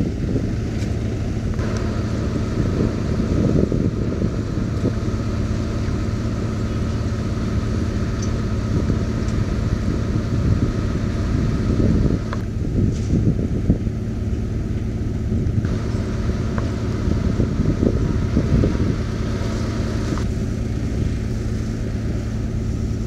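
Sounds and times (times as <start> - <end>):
pile driving machinery hum: 0.0 - 23.0.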